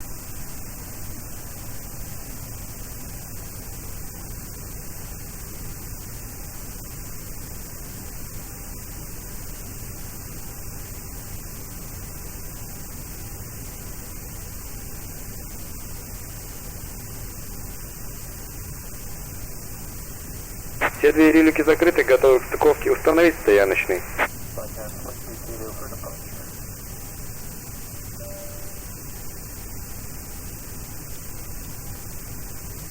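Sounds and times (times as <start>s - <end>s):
steady hiss: 0.0s - 32.9s.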